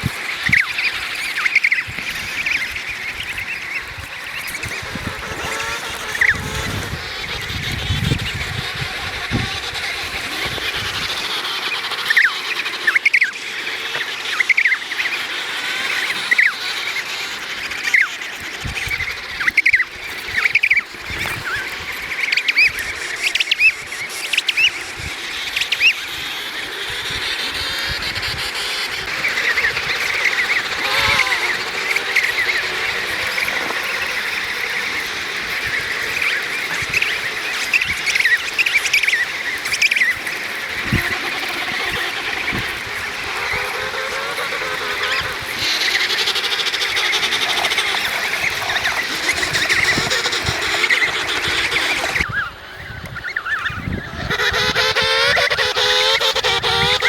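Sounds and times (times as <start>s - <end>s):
penguin chicks chirping: 0.0s - 57.0s.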